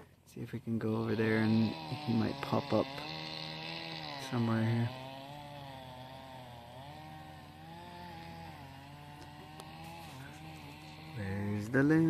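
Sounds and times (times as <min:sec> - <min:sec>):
distant chainsaw running: 0:00.0 - 0:12.0.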